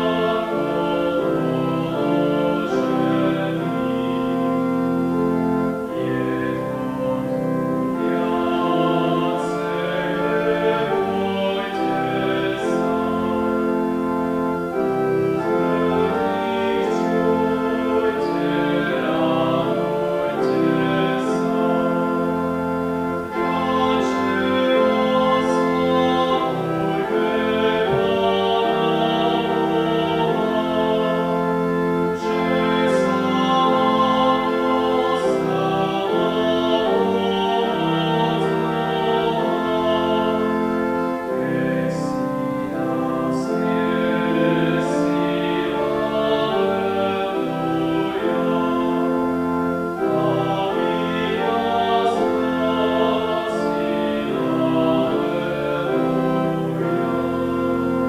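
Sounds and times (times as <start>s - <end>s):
organ playing held chords: 0.0s - 58.0s
voices singing: 0.0s - 58.0s.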